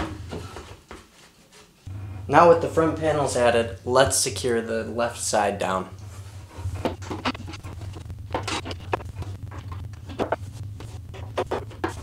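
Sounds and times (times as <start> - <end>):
low hum: 1.9 - 12.0.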